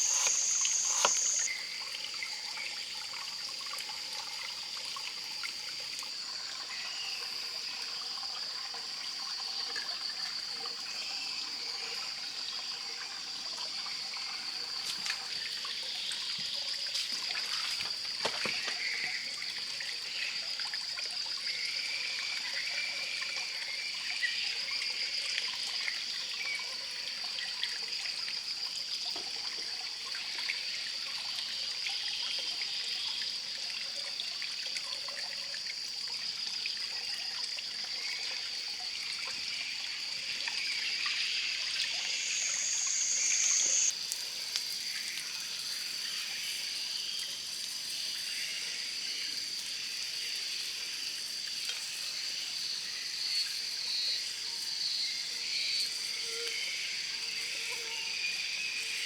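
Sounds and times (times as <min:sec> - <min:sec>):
water trickling: 0:00.0 - 0:56.3.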